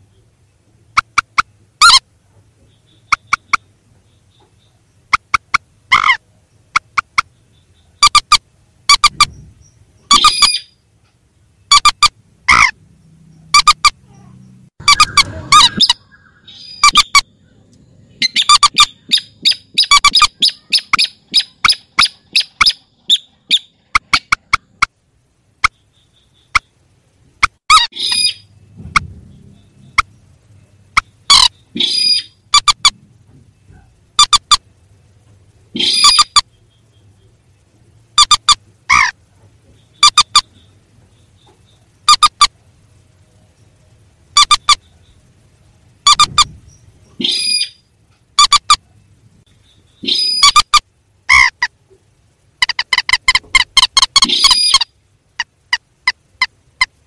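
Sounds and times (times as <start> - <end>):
recorded bird calls: 0.0 - 57.0.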